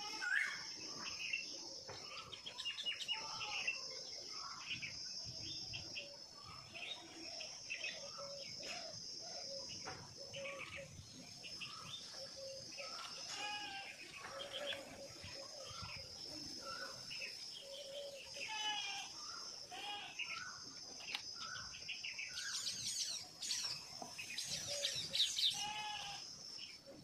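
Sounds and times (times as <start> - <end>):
birds chirping: 0.0 - 27.0
high-pitched insect trill: 0.0 - 27.0.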